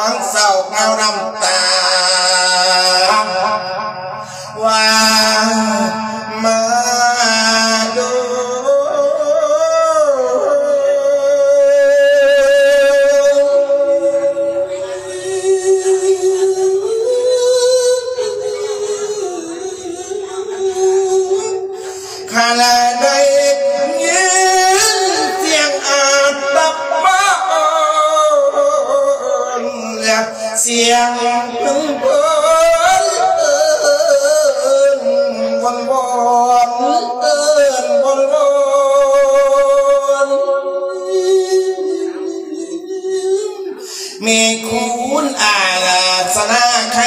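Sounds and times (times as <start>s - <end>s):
man singing with vibrato: 0.0s - 47.0s.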